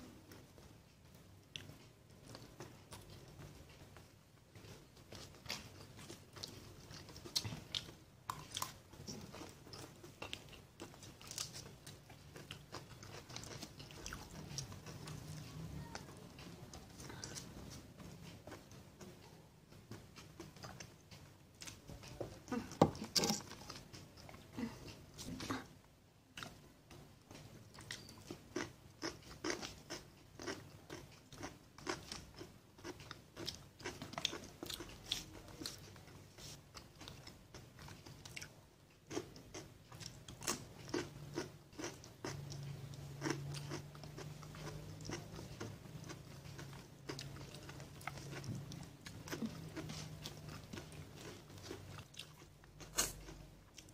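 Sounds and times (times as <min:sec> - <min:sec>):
person chewing crunchy food: 0:01.4 - 0:25.6, 0:27.3 - 0:53.9.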